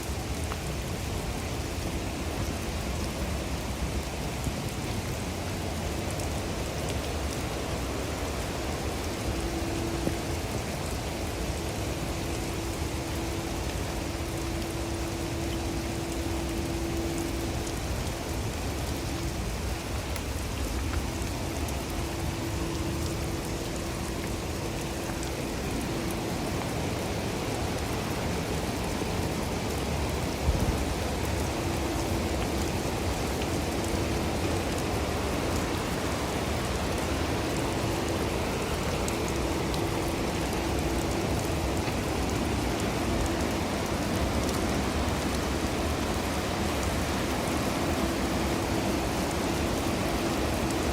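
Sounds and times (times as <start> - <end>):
low steady hum: 0.0 - 50.9
steady rain falling: 0.0 - 50.9.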